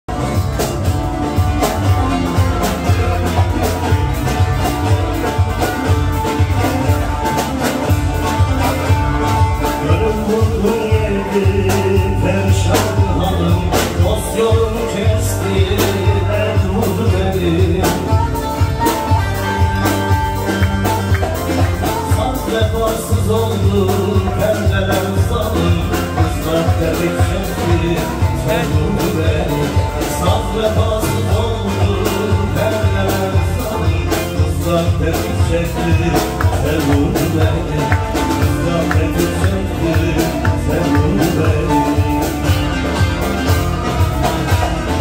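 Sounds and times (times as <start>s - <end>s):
bass and percussion beat: 0.0s - 45.0s
fast plucked lute: 0.1s - 45.0s.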